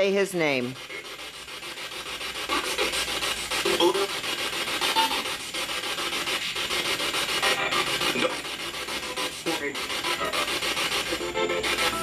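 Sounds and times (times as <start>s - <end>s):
broadcast voice snatches: 0.0s - 12.0s
radio static pulses: 0.0s - 12.0s.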